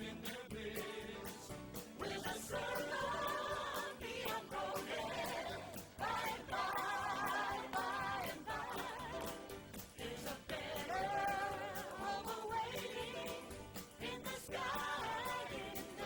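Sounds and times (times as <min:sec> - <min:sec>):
group singing in harmony: 0:00.0 - 0:16.0.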